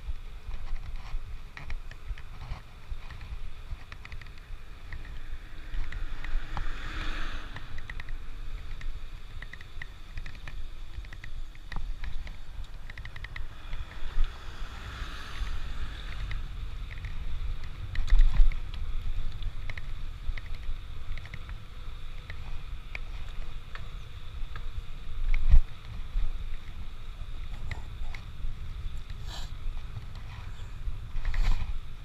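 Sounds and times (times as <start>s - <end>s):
wind buffeting on microphone: 0.0s - 32.0s
small clicks and rattles: 0.4s - 6.7s, 7.5s - 14.3s, 15.4s - 29.2s.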